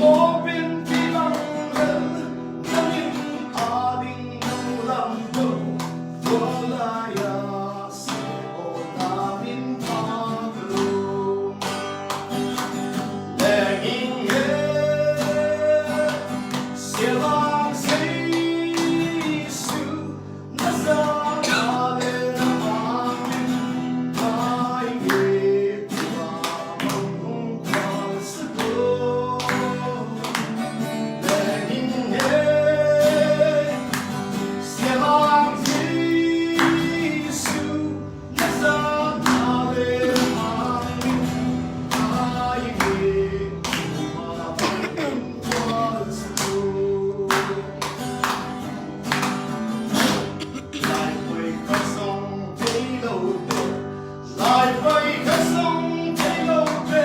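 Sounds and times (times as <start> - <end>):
person singing: 0.0 - 12.3, 13.4 - 30.5, 31.2 - 49.2, 49.9 - 57.0
strummed guitar with beat: 0.0 - 57.0.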